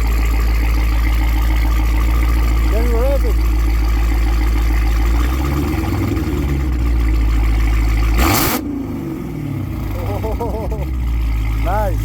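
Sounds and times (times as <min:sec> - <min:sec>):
car engine exhaust rumble: 0:00.0 - 0:12.0.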